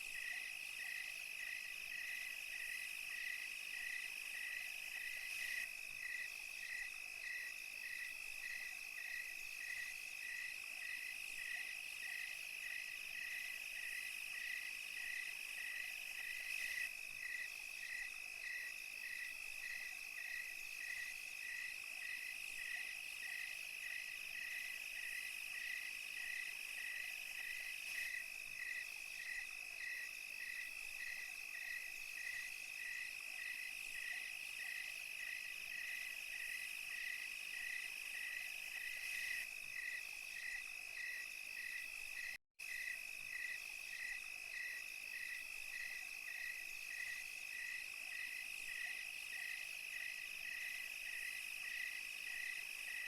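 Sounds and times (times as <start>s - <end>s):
crickets trilling: 0.0s - 53.0s
insect chirping: 0.0s - 53.0s.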